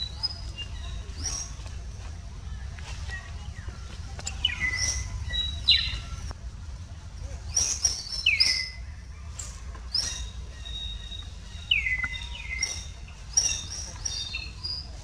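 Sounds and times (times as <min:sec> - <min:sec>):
high chirping calls: 0:00.0 - 0:01.9, 0:03.0 - 0:06.3, 0:07.4 - 0:15.0.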